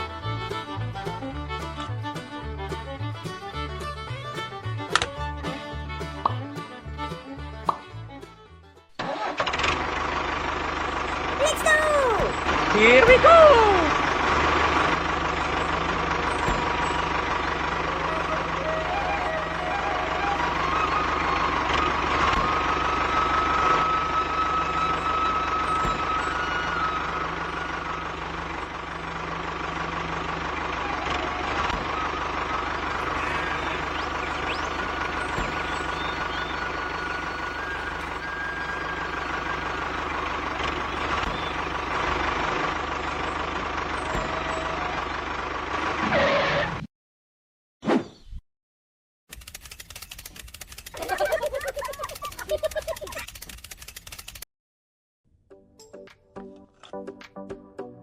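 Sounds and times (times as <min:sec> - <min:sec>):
mini tractor engine humming: 0:00.0 - 0:46.7, 0:49.3 - 0:54.4.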